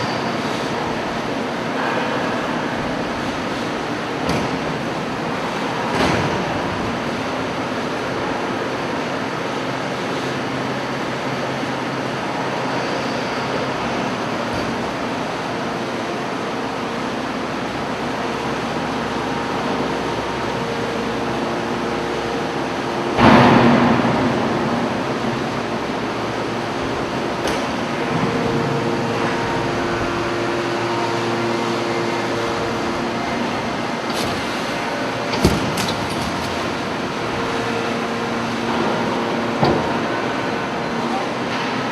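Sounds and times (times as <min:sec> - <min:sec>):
baling machine humming: 0:00.0 - 0:41.9.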